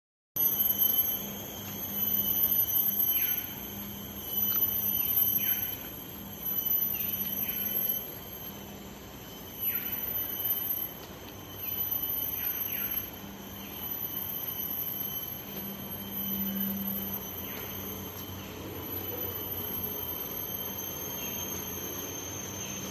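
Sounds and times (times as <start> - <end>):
insect chorus buzzing: 0.4 - 22.9.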